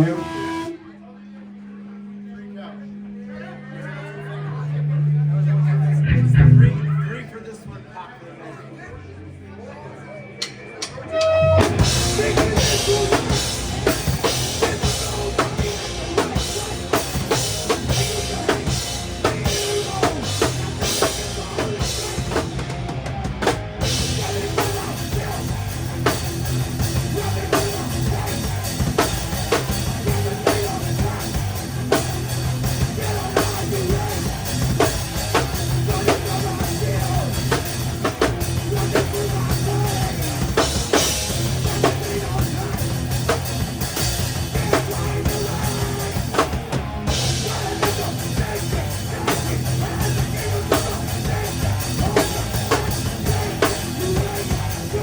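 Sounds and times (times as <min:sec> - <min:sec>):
live rock band playing: 0:00.0 - 0:00.7, 0:11.0 - 0:55.0.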